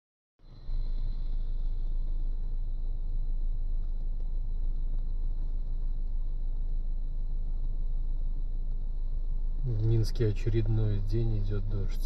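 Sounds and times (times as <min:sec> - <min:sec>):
car idling: 0:00.5 - 0:12.0.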